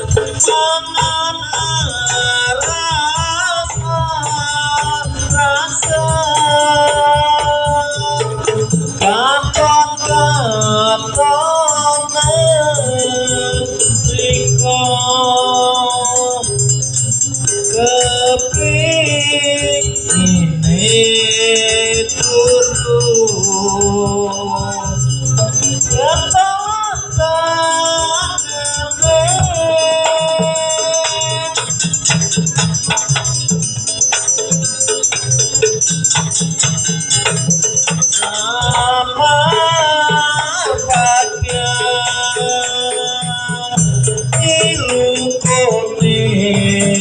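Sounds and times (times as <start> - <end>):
gamelan instruments: 0.0 - 47.0
pulsing drum: 0.0 - 47.0
ringing metal percussion: 0.0 - 47.0.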